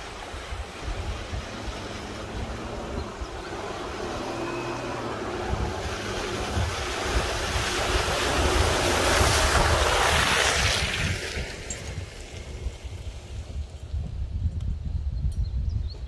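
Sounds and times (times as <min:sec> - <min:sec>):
truck tyres splashing through mud: 0:00.0 - 0:13.9.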